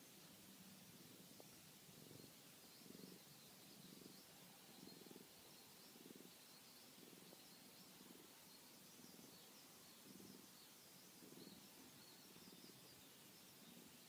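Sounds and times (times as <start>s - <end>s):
cat purring: 0.0s - 14.0s
faint high chirps: 0.0s - 14.0s.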